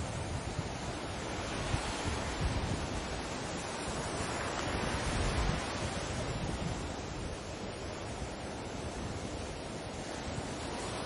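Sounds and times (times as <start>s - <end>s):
sea surf washing: 0.0s - 11.0s
wind rumble on microphone: 0.0s - 11.0s.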